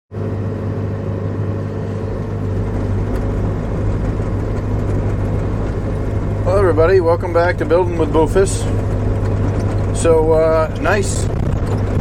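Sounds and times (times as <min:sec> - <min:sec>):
diesel engine running: 0:00.1 - 0:12.0.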